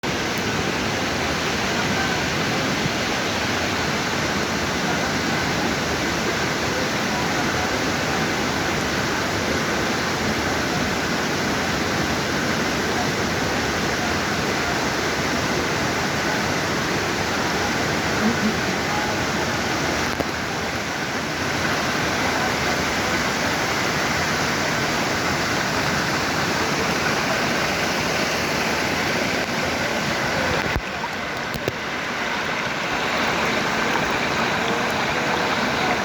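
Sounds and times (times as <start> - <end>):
waterfall and river rushing: 0.0 - 36.0.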